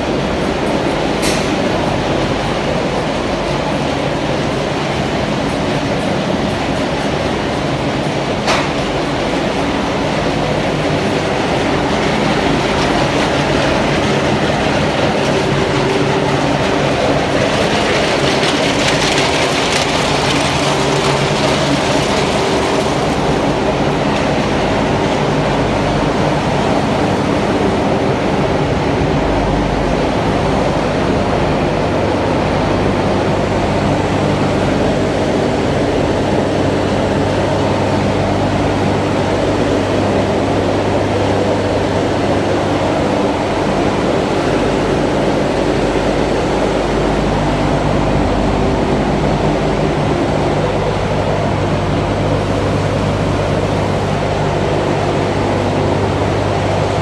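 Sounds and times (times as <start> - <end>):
mill machinery drone: 0.0 - 57.0.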